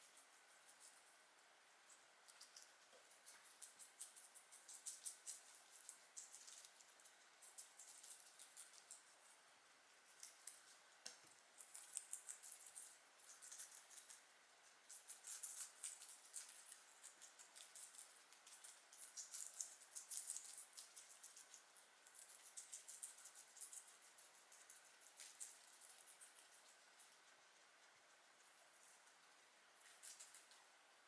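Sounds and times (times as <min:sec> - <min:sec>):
guinea pigs chewing: 0:00.0 - 0:31.0.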